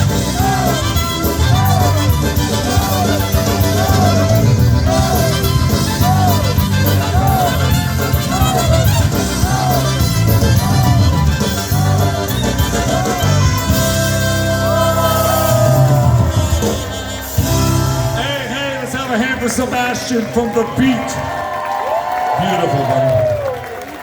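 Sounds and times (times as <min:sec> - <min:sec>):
live polka band music: 0:00.0 - 0:21.2.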